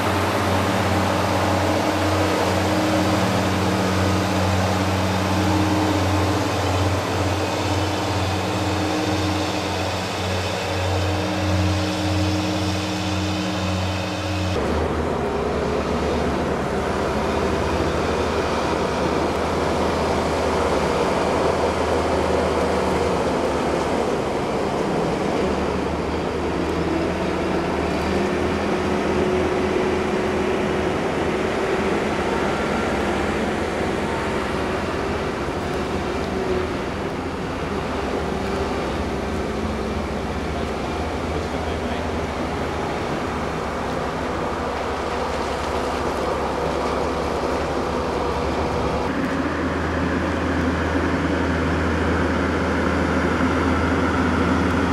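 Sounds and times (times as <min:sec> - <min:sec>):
large vehicle engine running: 0:00.0 - 0:54.9.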